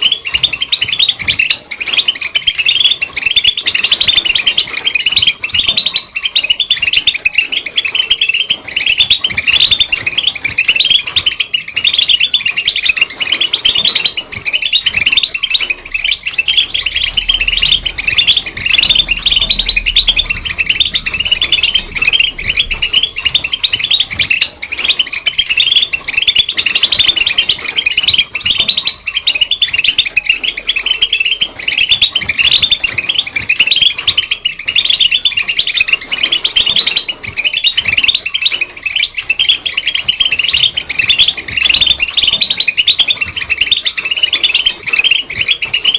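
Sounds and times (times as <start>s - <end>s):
finch twittering song: 0.0s - 45.9s.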